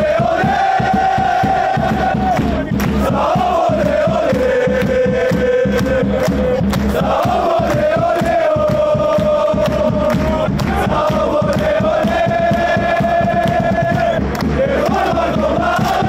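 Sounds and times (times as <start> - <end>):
crowd chanting in unison: 0.0 - 16.0
crowd clapping: 1.4 - 16.0.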